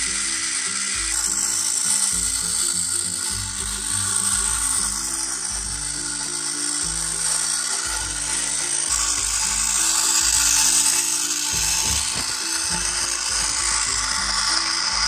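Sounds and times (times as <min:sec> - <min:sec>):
toy train motor whirring: 0:00.0 - 0:15.0.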